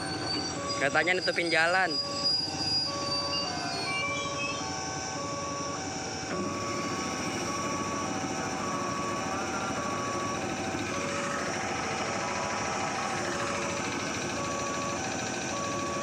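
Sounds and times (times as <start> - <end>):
electric train standing: 0.0 - 16.0.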